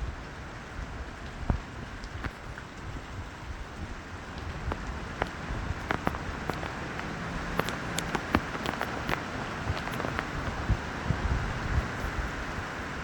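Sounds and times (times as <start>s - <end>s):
steady rain hiss: 0.0s - 13.0s
raindrops hitting a surface: 0.1s - 13.0s.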